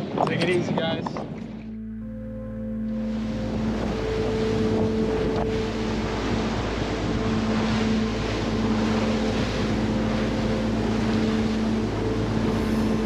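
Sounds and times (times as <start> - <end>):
wind buffeting microphone: 0.0 - 1.8, 2.8 - 13.0
water rushing off hull: 0.0 - 13.0
motorboat engine: 0.4 - 13.0.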